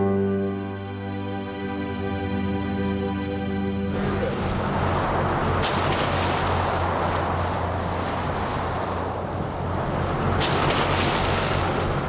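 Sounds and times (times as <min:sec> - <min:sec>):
boat engine drone: 0:00.0 - 0:12.0
water splashing along hull: 0:02.0 - 0:12.0.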